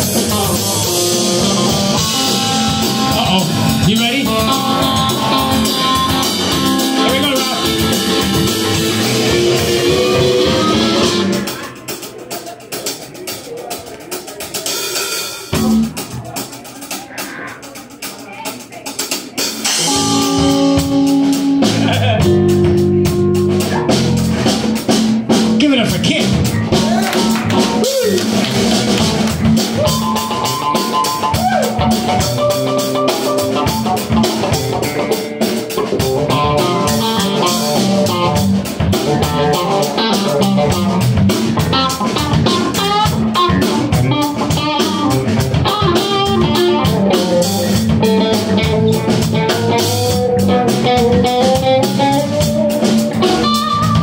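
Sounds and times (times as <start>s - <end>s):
electric bass: 0.0s - 11.6s, 15.5s - 16.1s, 19.6s - 54.0s
electric guitar lead lines: 0.0s - 11.8s, 19.6s - 54.0s
drum kit: 0.0s - 54.0s.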